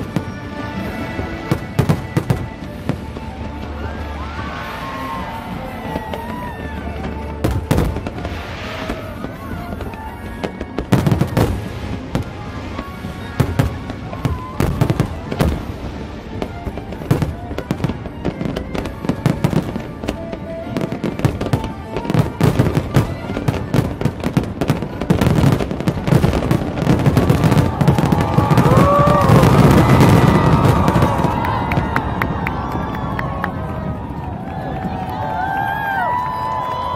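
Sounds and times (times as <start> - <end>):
fireworks bursting with crackling: 0.0 - 36.9
music: 0.0 - 36.9.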